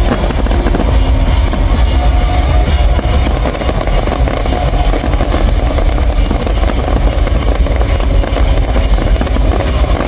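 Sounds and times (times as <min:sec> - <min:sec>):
fireworks crackling and popping: 0:00.0 - 0:10.0
low rumble: 0:00.0 - 0:10.0.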